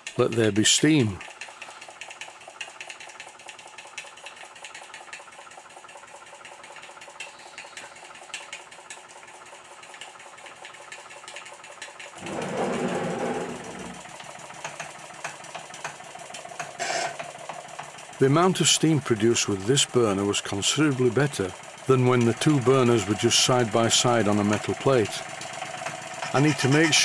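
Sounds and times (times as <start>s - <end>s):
steam engine mechanical clatter: 0.0s - 27.0s.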